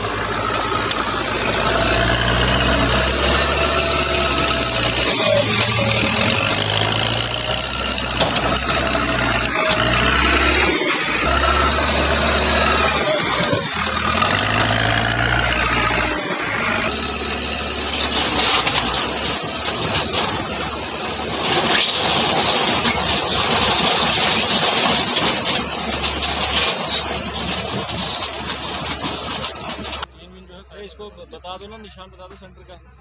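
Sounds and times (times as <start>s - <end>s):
diesel engine under load: 0.0s - 33.0s.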